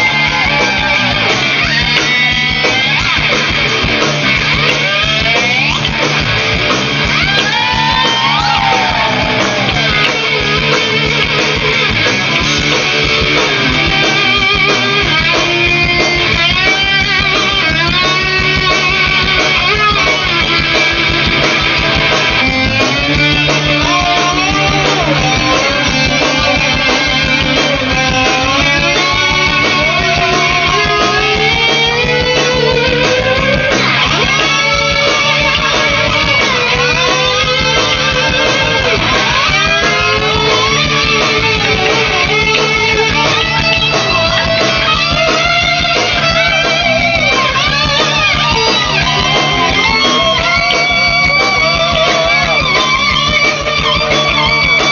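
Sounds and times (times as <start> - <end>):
bass: 0.0 - 54.9
drums: 0.0 - 54.9
electric guitar lead: 0.0 - 54.9.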